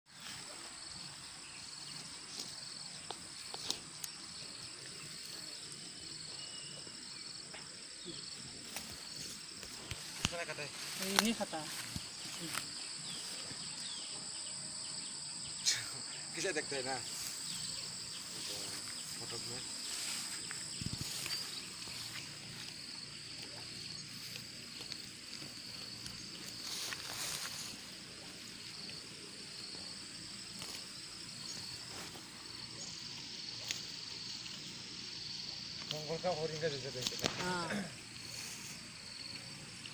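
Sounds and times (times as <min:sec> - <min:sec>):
insects trilling: 0:00.1 - 0:39.9.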